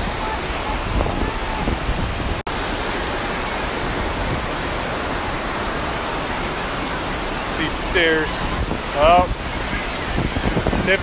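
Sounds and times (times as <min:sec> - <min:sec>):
rush of falling water: 0:00.0 - 0:11.0.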